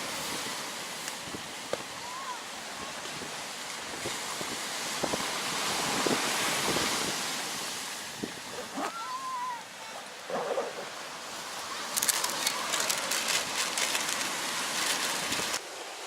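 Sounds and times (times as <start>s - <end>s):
sea surf washing on shore: 0.0s - 16.0s.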